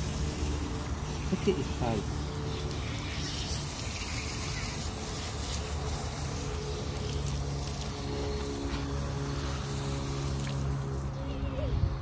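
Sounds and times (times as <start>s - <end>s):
hose spraying water: 0.0s - 11.8s.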